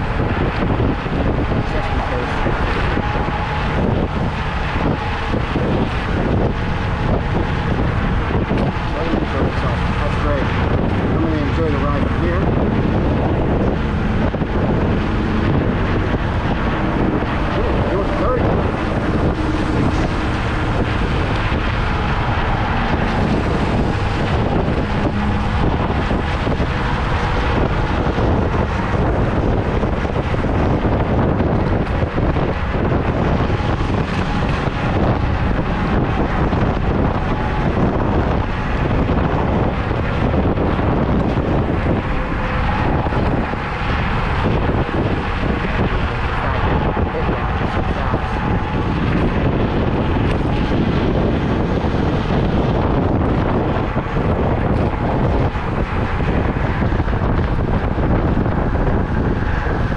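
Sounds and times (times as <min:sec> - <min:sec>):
scooter tyre and road noise: 0:00.0 - 0:59.9
wind rushing over microphone: 0:00.0 - 0:59.9.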